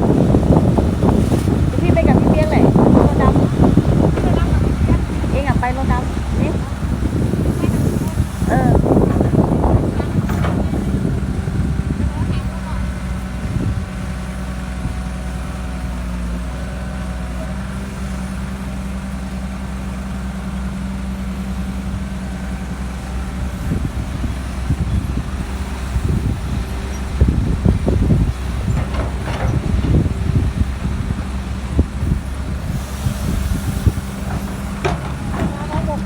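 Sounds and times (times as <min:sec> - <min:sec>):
low thumps and rumbles: 0:00.0 - 0:16.8, 0:21.1 - 0:36.0
heavy diesel engine running: 0:00.0 - 0:36.0.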